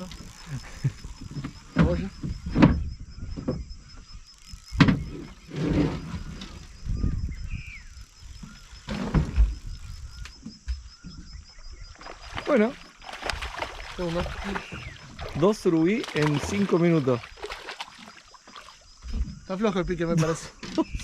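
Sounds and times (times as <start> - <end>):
knocks and thumps in a boat: 1.0 - 3.9, 4.7 - 6.8, 8.3 - 21.0.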